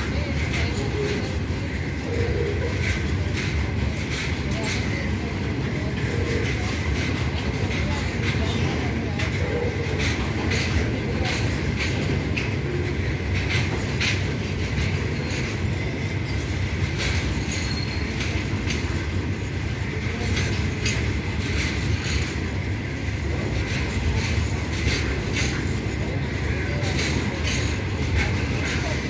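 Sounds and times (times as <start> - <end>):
train wheels rumbling on rail: 0.0 - 29.0
wheels clunking over rail joints: 2.7 - 29.0.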